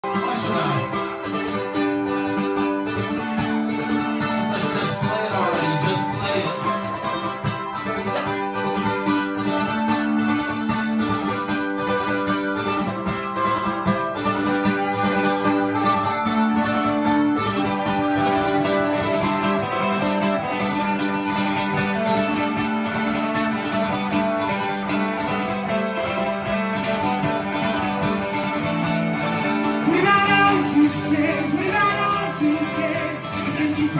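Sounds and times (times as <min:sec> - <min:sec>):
acoustic guitar: 0:00.0 - 0:33.9
second guitar: 0:00.0 - 0:33.9.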